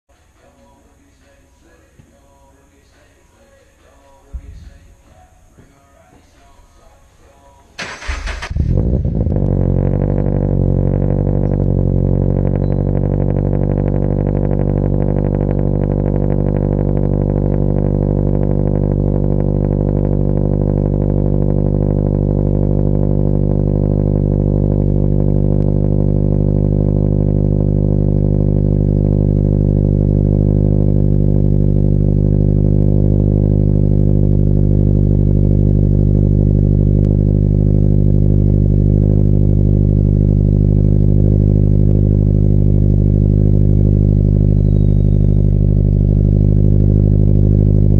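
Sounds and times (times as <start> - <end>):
car engine idling: 0.1 - 47.9.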